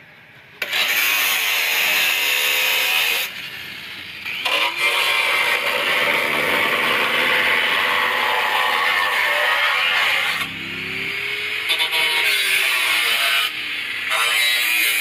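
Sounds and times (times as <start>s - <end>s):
angle grinder grinding steel: 0.6s - 15.0s.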